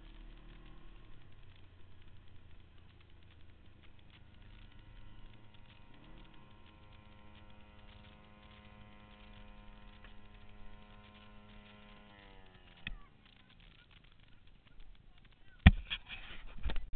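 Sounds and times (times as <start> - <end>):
muffled engine hum: 0.0 - 16.9.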